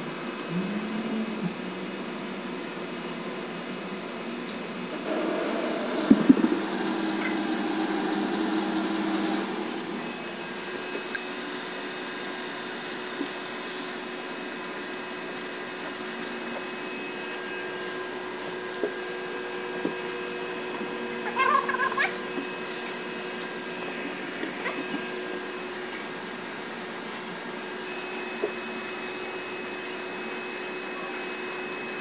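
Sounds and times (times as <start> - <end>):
electric machinery hum: 0.0 - 32.0
low machine whir: 0.0 - 32.0.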